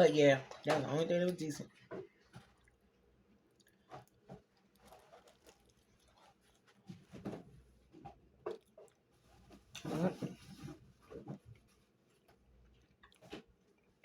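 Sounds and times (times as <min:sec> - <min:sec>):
soft chewing and biting: 0:01.8 - 0:14.0.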